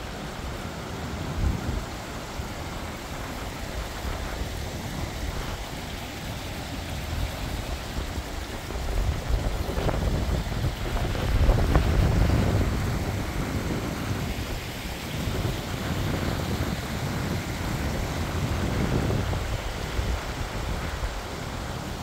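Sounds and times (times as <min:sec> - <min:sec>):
stream running between rocks: 0:00.0 - 0:22.0
wind buffeting microphone: 0:01.2 - 0:22.0.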